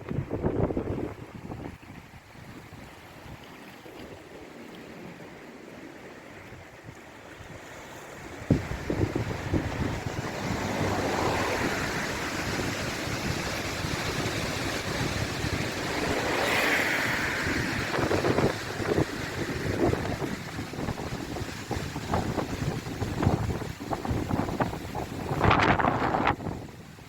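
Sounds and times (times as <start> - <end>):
wind buffeting microphone: 0.0 - 3.4, 6.4 - 27.0
river rushing: 5.0 - 27.0.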